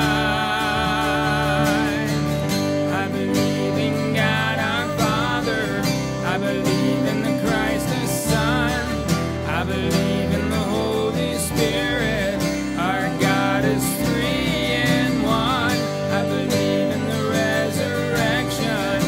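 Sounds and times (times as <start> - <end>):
acoustic guitar strumming: 0.0 - 19.0
keyboard playing: 0.0 - 19.0
woman and man singing: 0.0 - 19.0.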